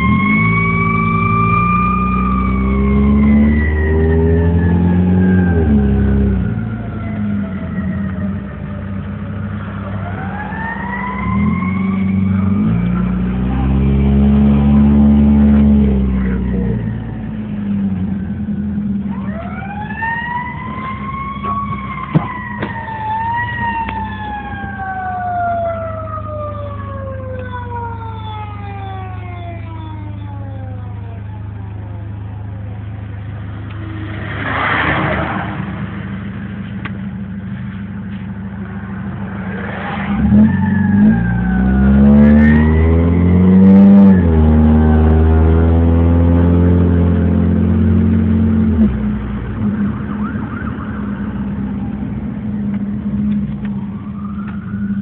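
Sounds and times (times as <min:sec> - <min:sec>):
car engine accelerating: 0:00.0 - 0:22.5, 0:32.7 - 0:55.0
fire truck siren: 0:00.0 - 0:35.4, 0:38.6 - 0:47.6, 0:48.6 - 0:55.0.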